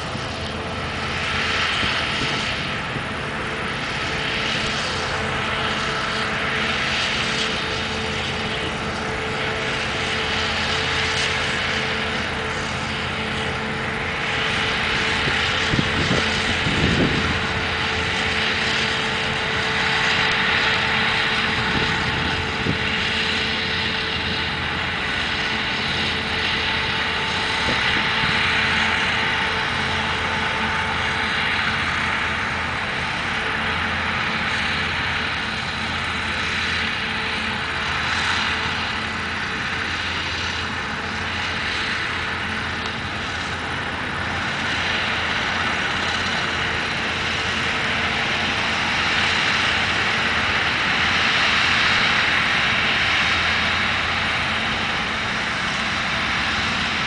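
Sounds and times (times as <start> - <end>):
combine harvester machinery din: 0.0 - 57.0.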